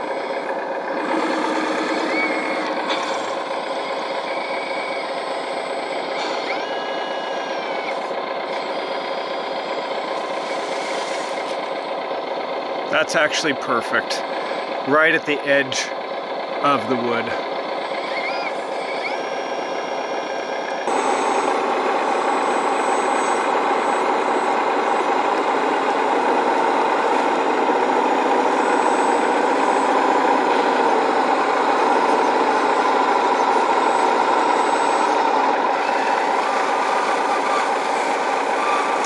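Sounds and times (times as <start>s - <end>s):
hydraulic rc machine running: 0.0s - 12.9s, 17.3s - 39.0s.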